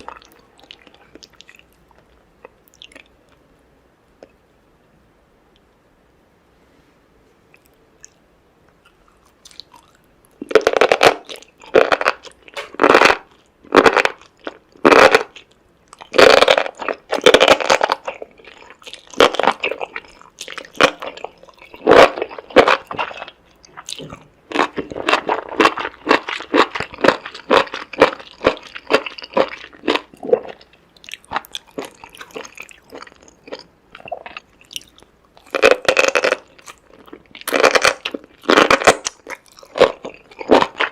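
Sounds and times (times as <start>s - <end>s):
person chewing crunchy food: 0.0s - 3.4s, 7.5s - 40.9s.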